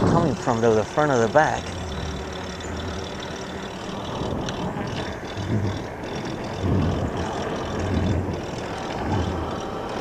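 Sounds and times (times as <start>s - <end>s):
tyre and wind rumble: 0.0s - 0.6s, 1.7s - 10.0s
e-bike part rubbing: 0.0s - 10.0s.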